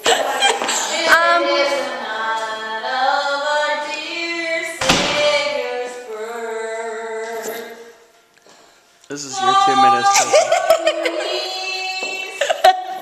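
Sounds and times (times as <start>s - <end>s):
woman singing unaccompanied: 0.5s - 8.0s, 9.3s - 13.0s.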